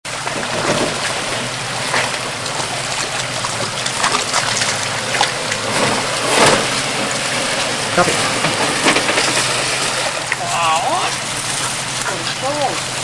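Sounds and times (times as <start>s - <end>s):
water rushing: 0.0s - 13.0s
water splashing: 0.0s - 13.0s.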